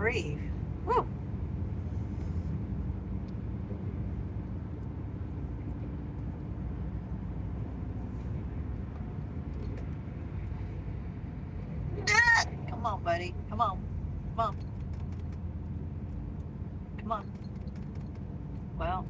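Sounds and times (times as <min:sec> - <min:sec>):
car road noise at highway speed: 0:00.0 - 0:19.0.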